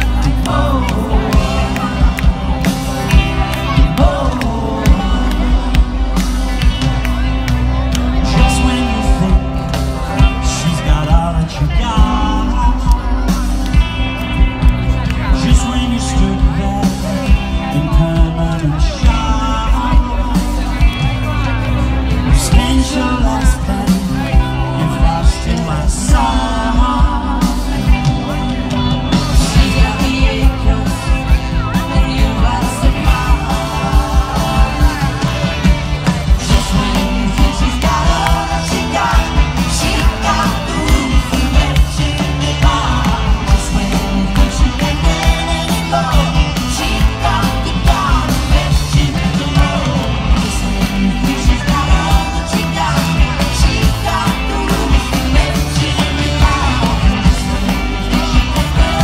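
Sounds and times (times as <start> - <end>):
live band playing pop song: 0.0 - 59.0
person singing: 0.0 - 59.0
steady drum beat: 0.0 - 59.0.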